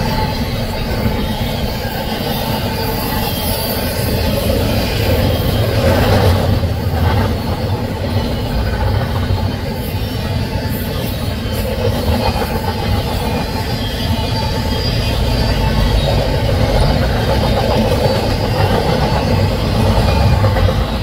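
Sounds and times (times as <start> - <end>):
steel wheels roaring on rails: 0.0 - 21.0.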